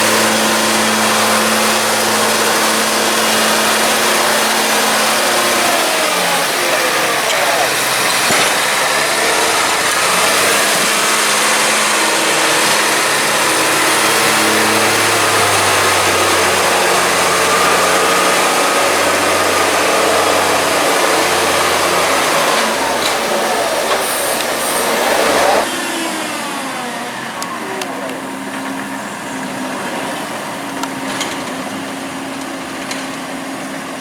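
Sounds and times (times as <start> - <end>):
tractor diesel engine revving: 0.0 - 34.0.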